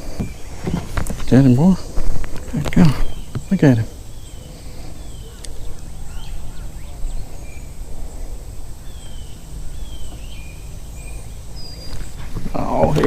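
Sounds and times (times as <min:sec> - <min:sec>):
birds chirping and whistling: 0:00.0 - 0:13.0
steady low rumble: 0:00.0 - 0:13.0.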